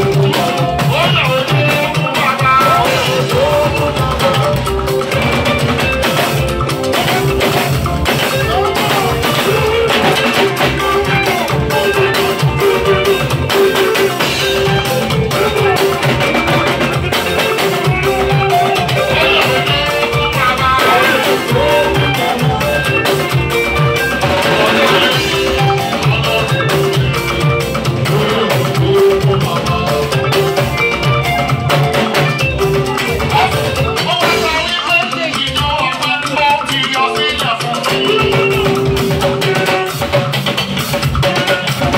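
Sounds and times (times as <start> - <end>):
music with guitar and drums: 0.0 - 41.9
person singing: 0.0 - 41.9.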